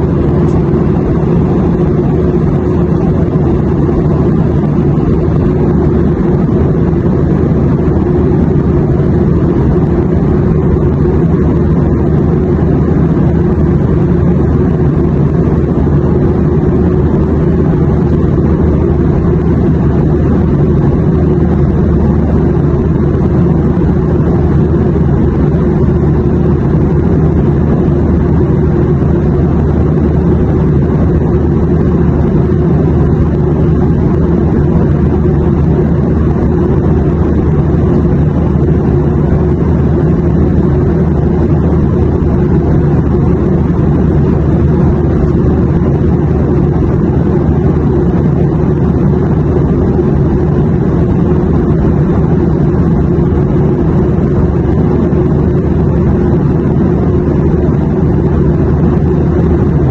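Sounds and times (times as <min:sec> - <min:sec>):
airplane engine drone: 0:00.0 - 0:59.9
faint steady hum: 0:00.0 - 0:59.9.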